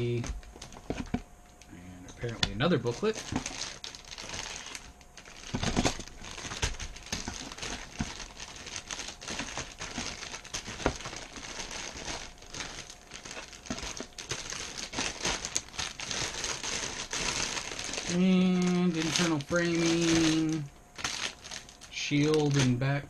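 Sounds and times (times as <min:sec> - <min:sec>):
plastic bags crinkling: 0:00.0 - 0:01.2, 0:02.2 - 0:23.0.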